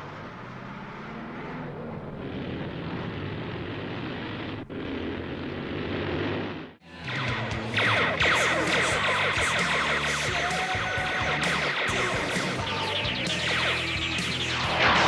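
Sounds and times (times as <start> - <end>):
cartoon engine drone: 0.0 - 15.0.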